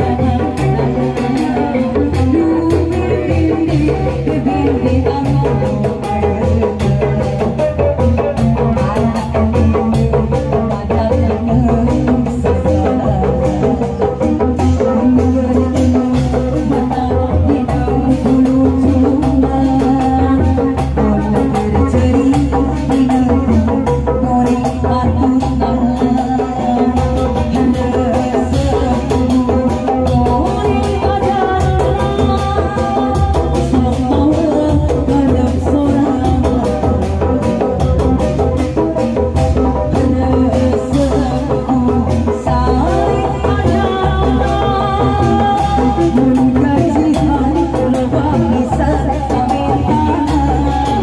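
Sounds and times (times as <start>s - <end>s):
dense drum and percussion strokes: 0.0s - 51.0s
instrumental melody with bass: 0.0s - 51.0s.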